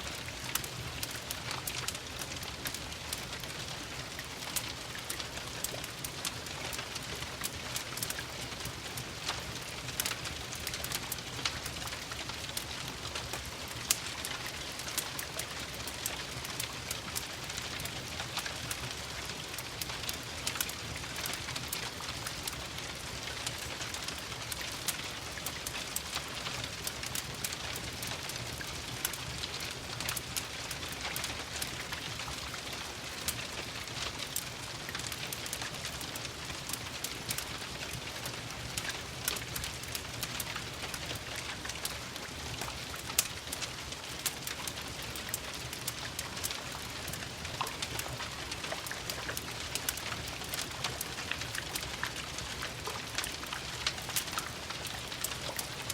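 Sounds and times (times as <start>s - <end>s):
rain pattering: 0.0s - 55.9s
wood fire crackling and popping: 0.0s - 55.9s.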